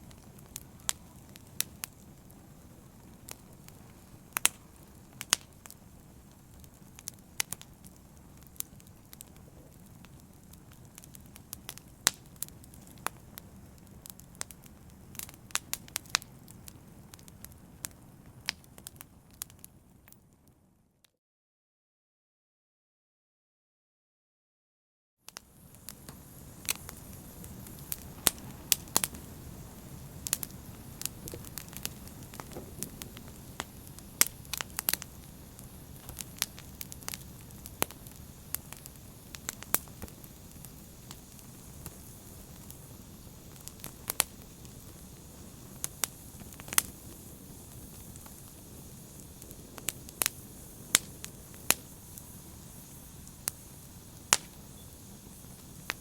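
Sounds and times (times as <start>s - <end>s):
low rush of flame: 0.0s - 20.1s, 25.4s - 56.0s
wood fire crackling and popping: 0.0s - 20.6s, 25.3s - 56.0s.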